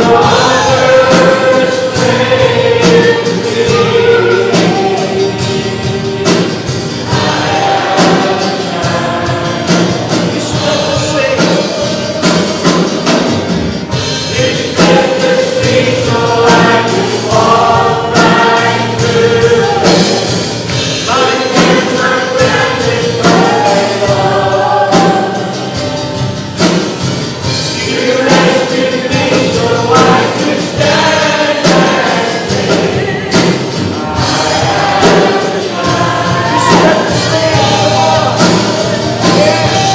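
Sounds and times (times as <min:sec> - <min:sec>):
choir singing gospel song: 0:00.0 - 0:39.9
instrumental accompaniment with beat: 0:00.0 - 0:39.9.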